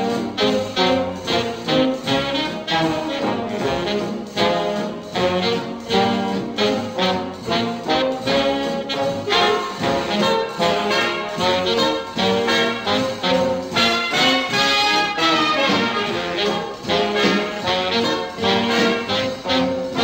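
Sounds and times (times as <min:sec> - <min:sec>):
brass instrumental music: 0:00.0 - 0:20.0.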